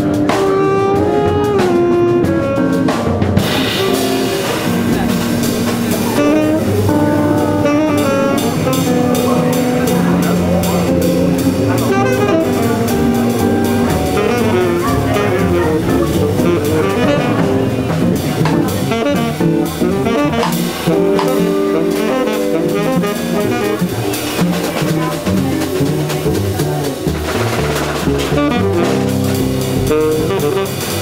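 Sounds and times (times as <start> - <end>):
saxophone melody: 0.0 - 27.0, 28.0 - 31.0
drum kit: 0.0 - 31.0
upright bass: 0.0 - 31.0.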